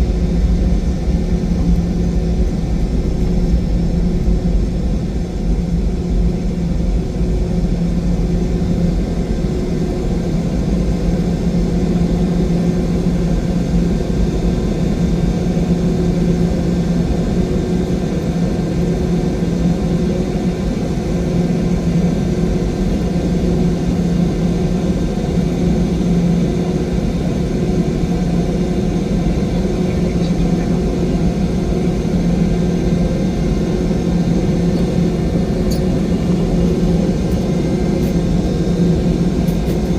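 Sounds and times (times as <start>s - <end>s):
airliner cabin drone: 0.0s - 39.9s
constant low hum: 0.0s - 39.9s.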